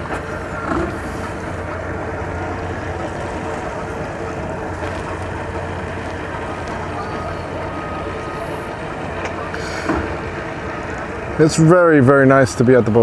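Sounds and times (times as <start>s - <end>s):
outboard boat engines idling: 0.0s - 13.0s.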